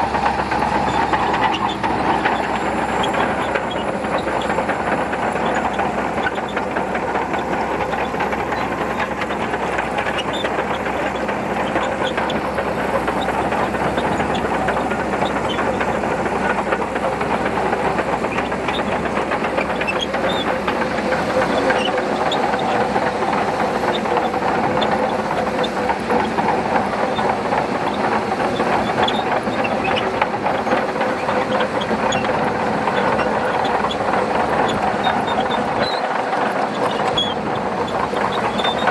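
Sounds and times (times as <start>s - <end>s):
bulldozer diesel engine: 0.0s - 38.9s
steel tracks clattering: 0.0s - 38.9s.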